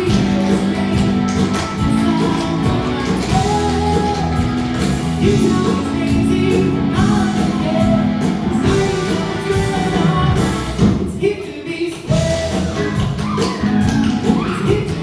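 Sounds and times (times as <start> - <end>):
live rock band playing: 0.0 - 11.2, 12.1 - 15.0
person singing: 0.0 - 15.0.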